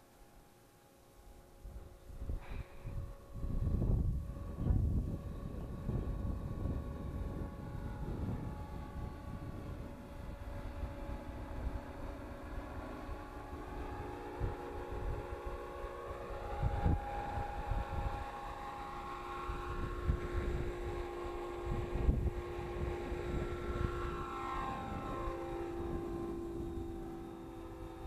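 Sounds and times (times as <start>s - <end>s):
rc helicopter rotor whine: 0.0s - 28.0s
wind rumble on microphone: 1.4s - 28.0s.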